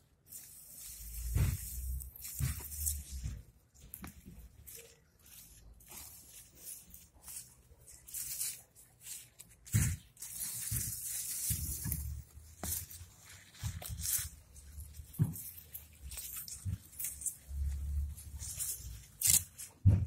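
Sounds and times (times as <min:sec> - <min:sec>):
leaves rustling: 0:00.2 - 0:19.8
roots tearing from soil: 0:00.3 - 0:19.9.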